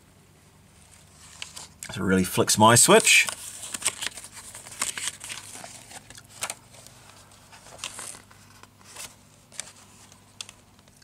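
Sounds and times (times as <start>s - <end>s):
book pages rustling: 0.7s - 1.8s, 2.9s - 11.0s.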